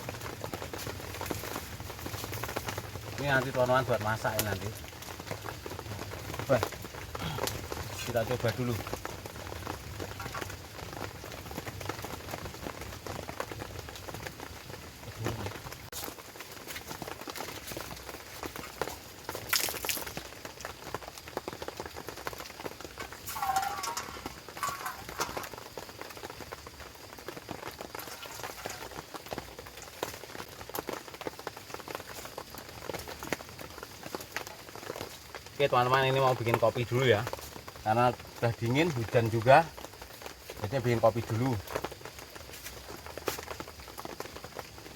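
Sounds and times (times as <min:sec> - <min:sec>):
rain pattering: 0:00.0 - 0:44.9.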